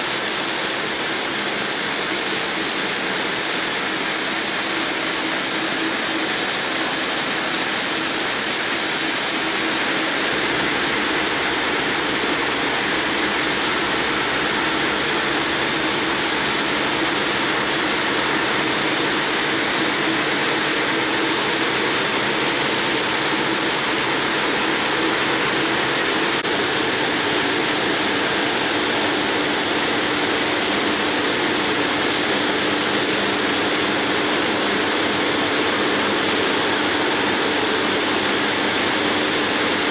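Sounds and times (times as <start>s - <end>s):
cooling water spraying: 0.0s - 35.1s.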